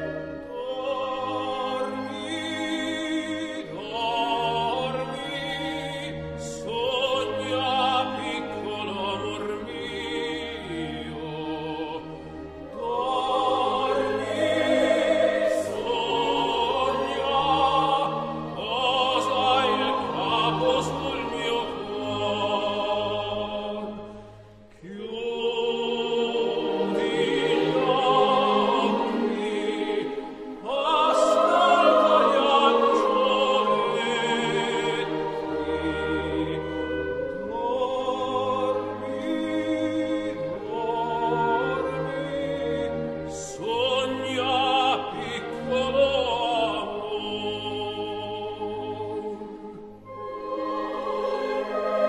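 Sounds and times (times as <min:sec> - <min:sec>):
operatic singing with orchestra: 0:00.0 - 0:52.0.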